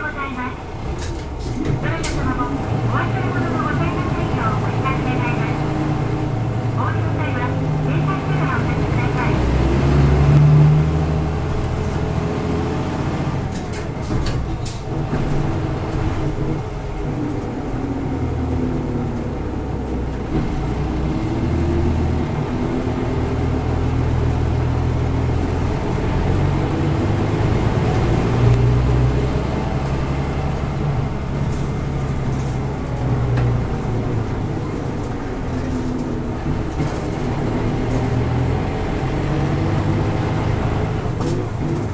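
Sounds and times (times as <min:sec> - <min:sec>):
bus engine drone: 0:00.0 - 0:41.9.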